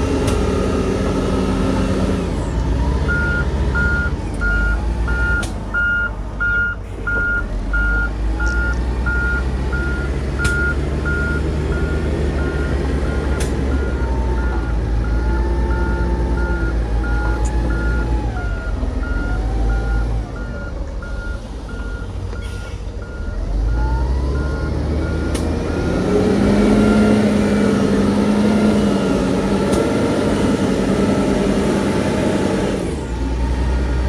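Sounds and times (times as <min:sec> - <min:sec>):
diesel engine running under load: 0:00.0 - 0:34.0
reversing alarm beeping: 0:03.0 - 0:32.8.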